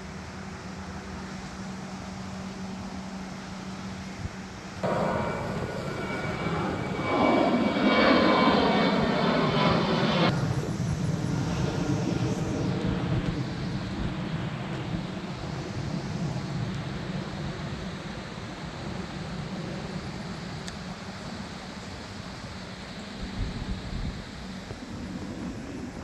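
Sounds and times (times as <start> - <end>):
airplane passing overhead: 0.0 - 26.0
high engine whine: 0.1 - 21.2.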